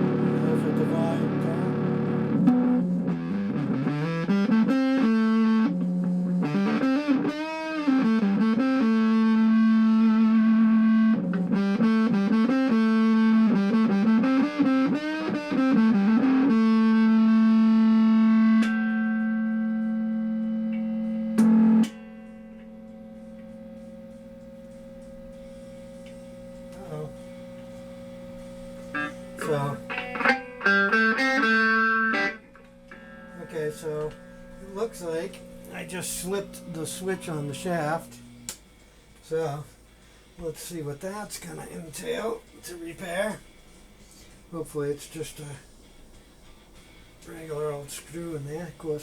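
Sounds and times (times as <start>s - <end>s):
electric guitar with vibrato: 0.0s - 40.2s
steady mains hum: 0.0s - 49.0s.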